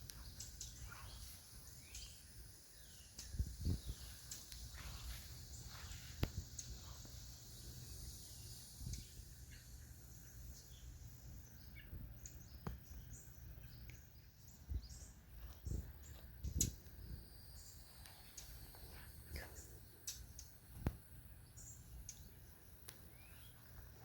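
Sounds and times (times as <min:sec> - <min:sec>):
birds chirping faintly: 0:00.0 - 0:24.0.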